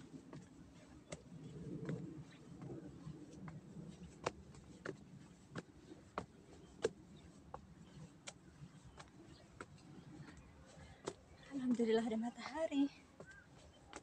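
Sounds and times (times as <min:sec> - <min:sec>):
footsteps on a trail: 0:00.0 - 0:14.0.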